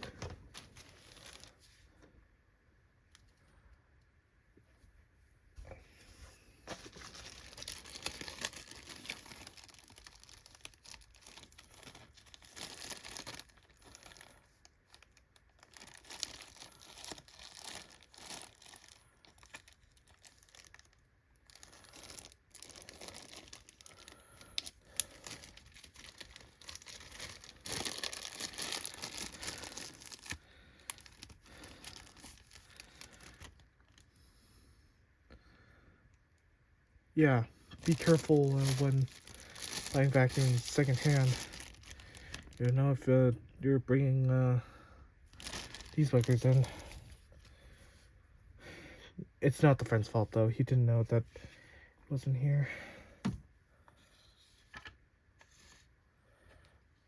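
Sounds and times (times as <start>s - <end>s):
crinkly material rustling: 0.0s - 2.2s, 4.6s - 34.2s, 37.2s - 48.2s, 53.2s - 57.0s.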